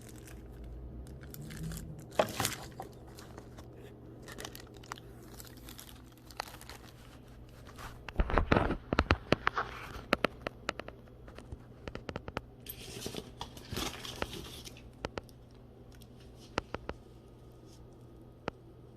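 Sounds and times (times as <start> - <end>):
packaging crinkling and tearing: 0.0 - 16.6.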